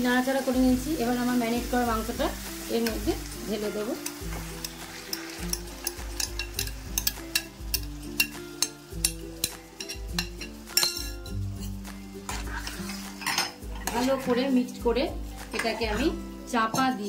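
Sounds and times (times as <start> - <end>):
chicken sizzling in oil: 0.0 - 16.7
soft background music: 0.0 - 17.0
spoon scraping bowl and pan: 2.4 - 14.8, 15.4 - 17.0.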